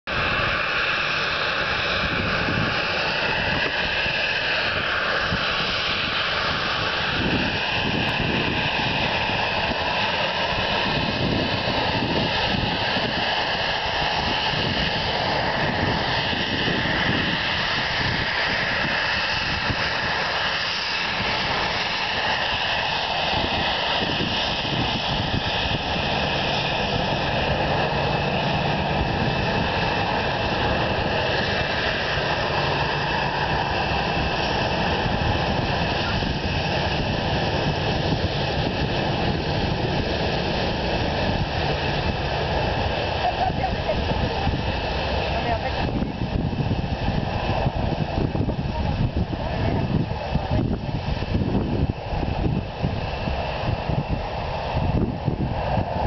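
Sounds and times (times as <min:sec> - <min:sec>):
constant engine rush: 0:00.0 - 0:56.0
jet engines whining: 0:00.1 - 0:56.0.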